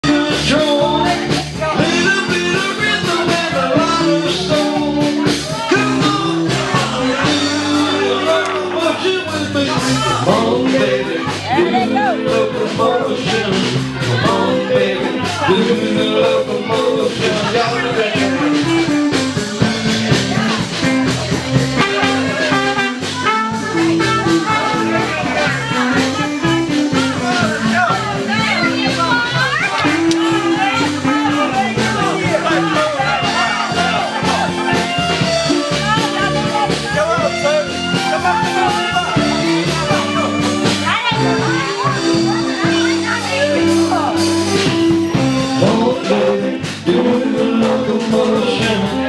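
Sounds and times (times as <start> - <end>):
guitar: 0.0 - 49.0
live rock band playing: 0.0 - 49.0
person singing: 0.0 - 49.0
steady drum beat: 0.0 - 49.0.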